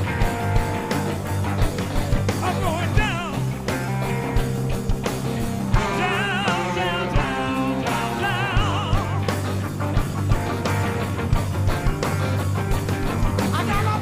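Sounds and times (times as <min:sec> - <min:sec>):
blues-rock band playing: 0:00.0 - 0:14.0
electric guitar lead with vibrato: 0:00.0 - 0:14.0.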